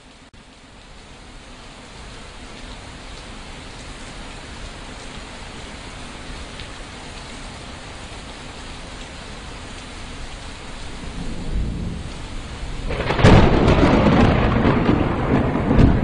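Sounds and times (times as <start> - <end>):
steady rain-like hiss: 0.0 - 16.0.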